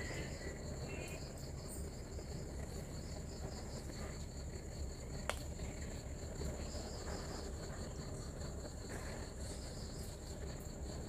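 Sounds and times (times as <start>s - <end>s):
crickets trilling: 0.0s - 11.0s
low background rumble: 0.0s - 11.0s.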